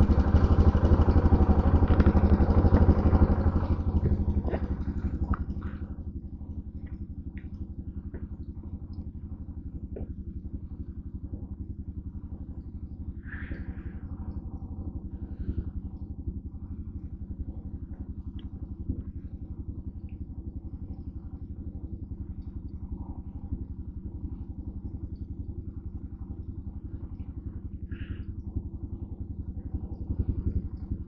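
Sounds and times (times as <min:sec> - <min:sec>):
motorcycle engine idling: 0:00.0 - 0:31.0.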